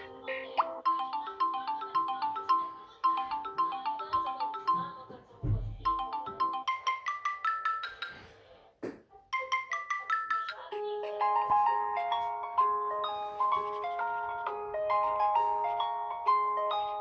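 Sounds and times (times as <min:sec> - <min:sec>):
marimba-like ringtone melody: 0:00.0 - 0:05.0, 0:05.7 - 0:08.3, 0:09.3 - 0:17.0.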